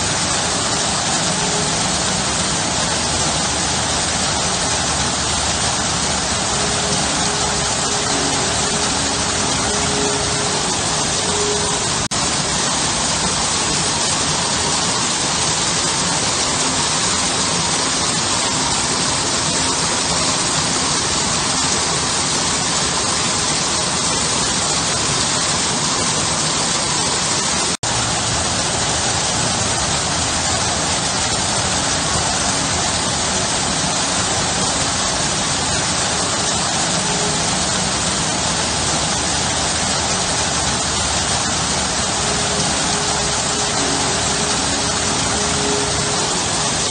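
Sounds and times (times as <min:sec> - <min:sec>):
water pouring over stone: 0:00.1 - 0:46.9.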